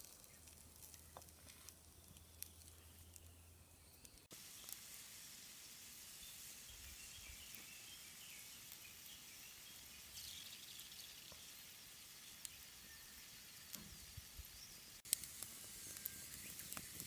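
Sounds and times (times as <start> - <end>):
soft bird chirps: 0.0 - 15.0, 15.6 - 17.0
faint steady hiss: 0.0 - 17.0.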